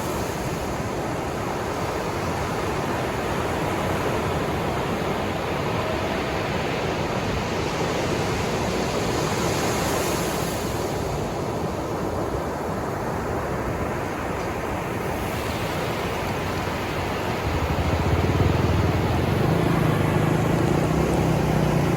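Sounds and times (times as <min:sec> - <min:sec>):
breaking ocean waves: 0:00.0 - 0:21.9.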